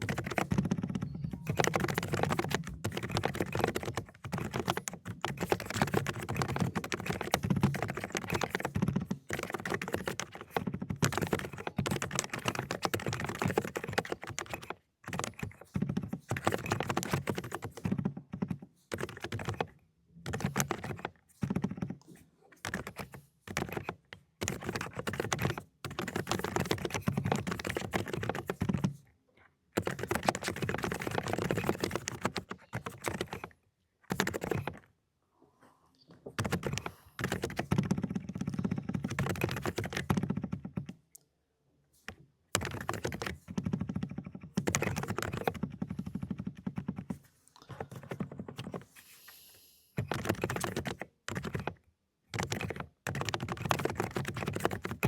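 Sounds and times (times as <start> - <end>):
fast typing on mechanical keyboard: 0.0 - 22.0, 22.6 - 29.1, 29.7 - 34.9, 36.4 - 41.0, 42.5 - 49.0, 50.0 - 55.0.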